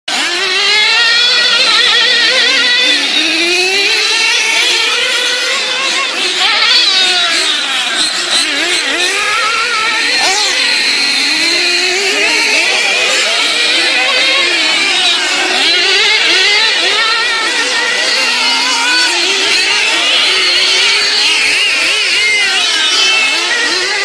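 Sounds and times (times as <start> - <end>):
racing engines revving: 0.1 - 24.0.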